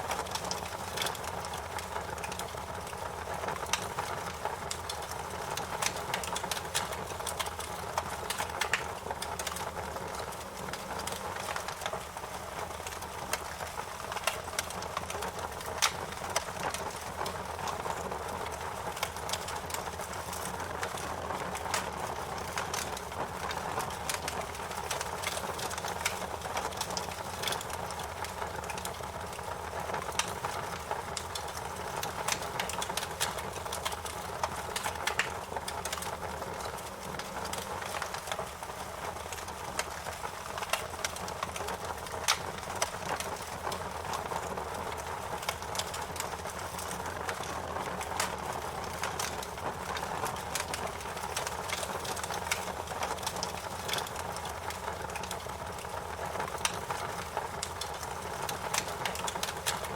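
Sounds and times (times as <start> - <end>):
fire hiss and low rumble: 0.0 - 59.9
wood fire crackling: 0.0 - 59.9.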